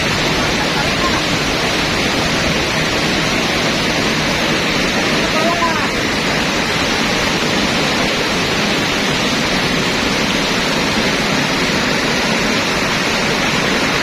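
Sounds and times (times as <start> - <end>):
river rapids roaring: 0.0 - 14.0.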